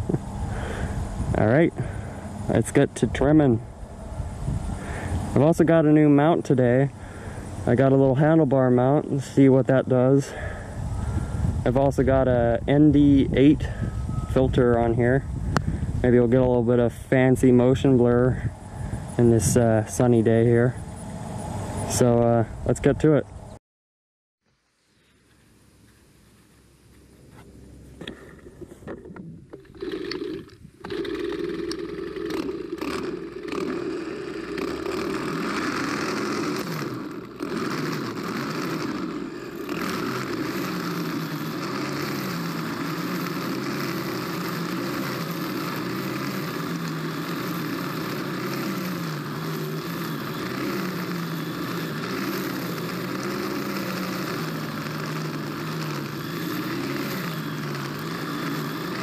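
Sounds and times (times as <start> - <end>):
string cutting grass: 0.0 - 13.8, 25.0 - 59.0
string trimmer engine: 0.0 - 22.8, 27.3 - 59.0.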